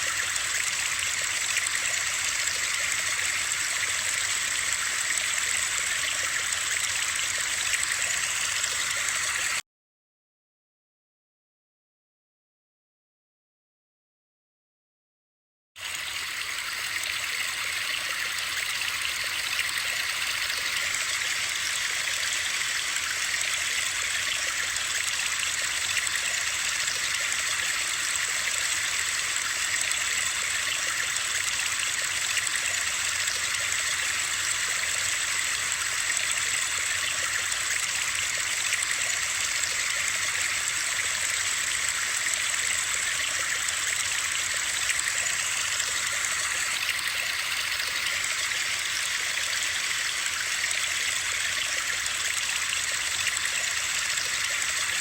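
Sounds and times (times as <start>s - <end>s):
running water hiss: 0.0s - 9.6s, 15.8s - 55.0s.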